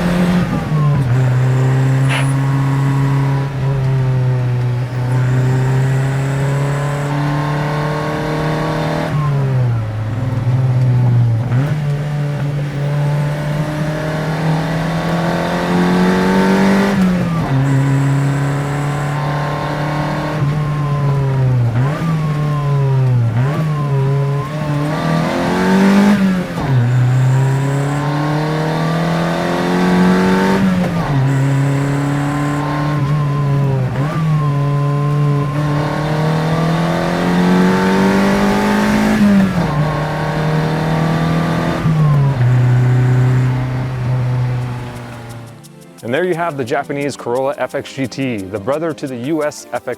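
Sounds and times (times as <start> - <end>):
car engine accelerating: 0.0 - 47.7.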